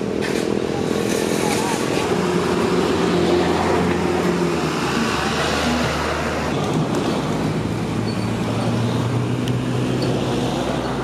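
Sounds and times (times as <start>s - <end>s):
passing traffic: 0.0s - 11.0s.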